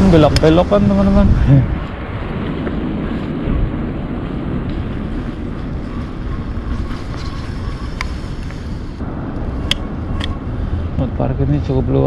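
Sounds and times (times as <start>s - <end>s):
bicycle road noise: 0.0s - 12.0s
wind rumbling on microphone: 0.0s - 12.0s.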